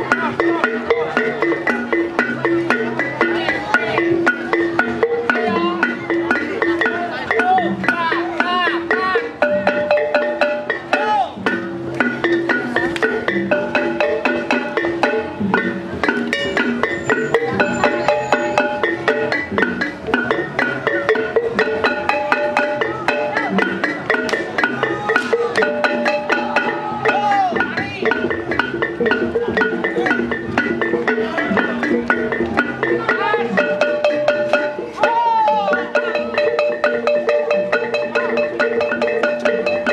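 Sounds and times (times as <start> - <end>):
voices: 0.0 - 10.0, 10.6 - 39.9
gamelan music: 0.0 - 39.9.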